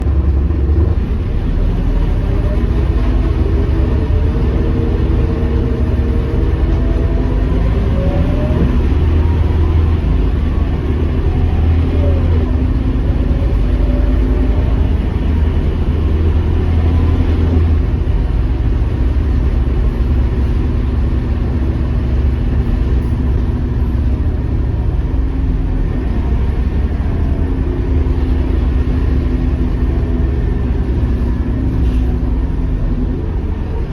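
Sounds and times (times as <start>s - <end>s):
bus diesel engine rumble: 0.0s - 33.9s.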